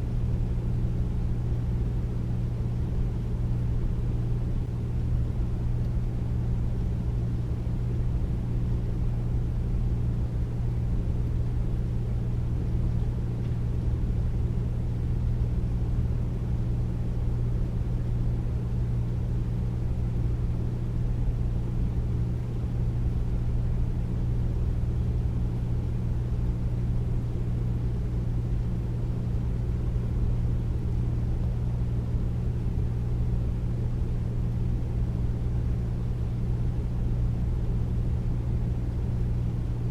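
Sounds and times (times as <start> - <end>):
air conditioner humming: 0.0 - 39.9.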